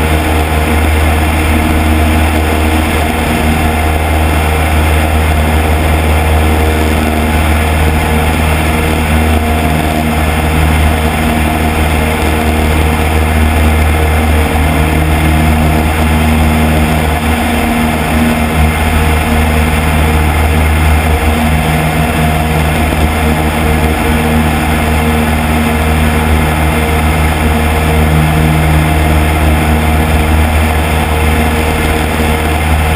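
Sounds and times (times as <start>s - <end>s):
light aircraft engine drone: 0.0s - 32.9s
wind rushing over microphone: 0.0s - 32.9s.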